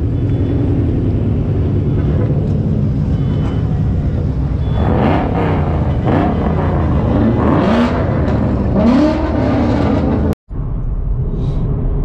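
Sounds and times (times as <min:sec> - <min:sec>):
car engines revving: 0:00.0 - 0:10.9
idling traffic rumble: 0:00.0 - 0:12.0.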